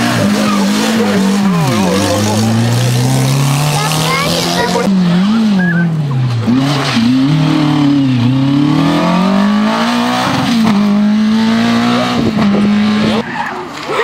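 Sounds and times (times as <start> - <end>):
car engine revving hard: 0.0 - 13.2.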